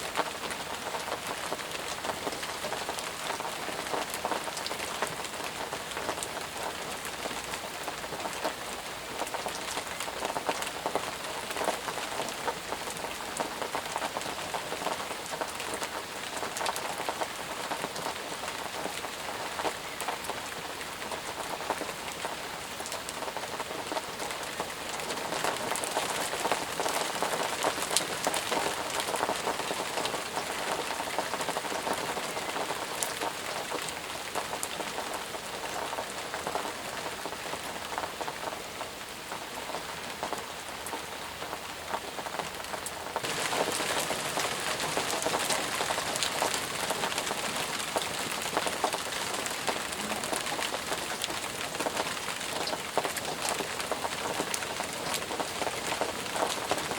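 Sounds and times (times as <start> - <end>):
rain falling on leaves: 0.0 - 56.9.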